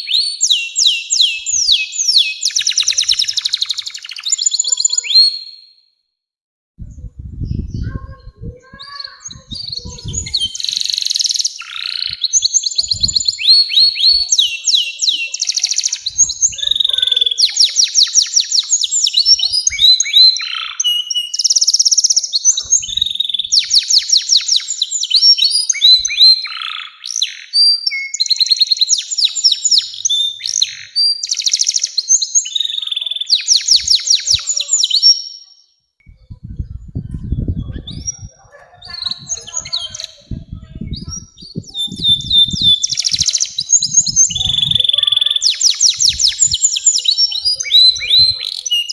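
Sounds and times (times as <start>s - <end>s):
canary singing trills: 0.0s - 5.8s, 6.9s - 48.9s.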